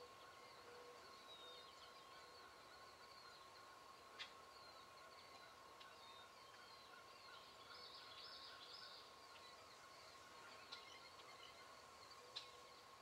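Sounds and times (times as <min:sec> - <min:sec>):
faint songbird chirping: 0:00.0 - 0:13.0.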